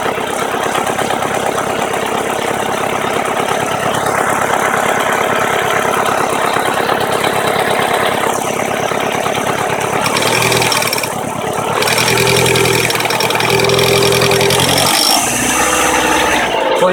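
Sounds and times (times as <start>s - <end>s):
fast even engine knocking: 0.0s - 16.7s
car engine running: 0.0s - 16.9s.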